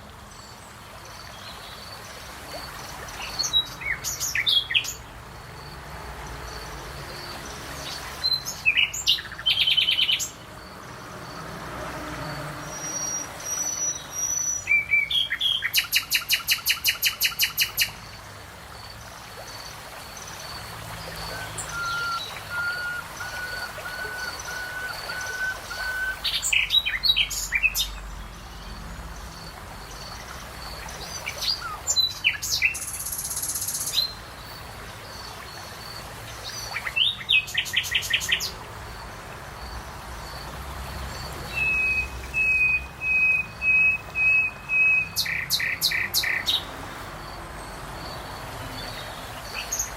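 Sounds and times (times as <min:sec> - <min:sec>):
birds singing: 0:00.0 - 0:05.2, 0:06.5 - 0:10.6, 0:12.7 - 0:38.6, 0:41.2 - 0:49.9.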